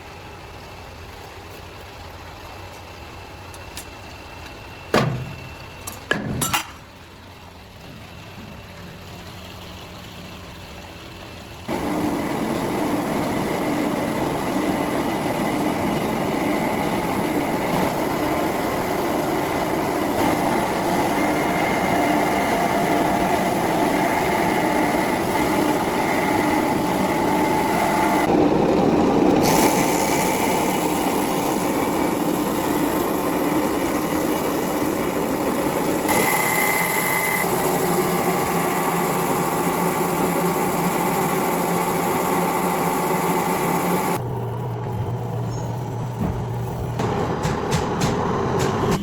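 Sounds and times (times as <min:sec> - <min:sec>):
factory machinery humming: 0:00.0 - 0:49.0.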